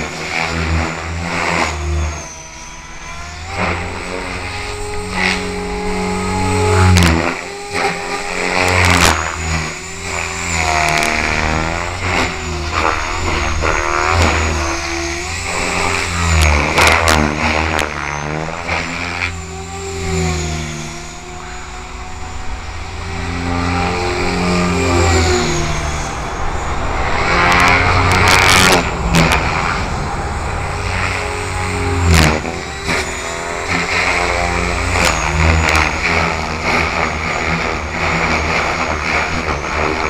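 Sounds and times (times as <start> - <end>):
model helicopter motor whine: 0.0 - 40.0.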